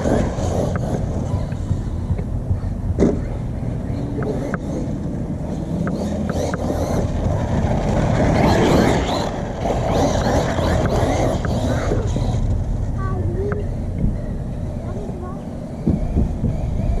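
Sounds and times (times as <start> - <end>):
rc truck rumbling over dirt: 0.0 - 17.0.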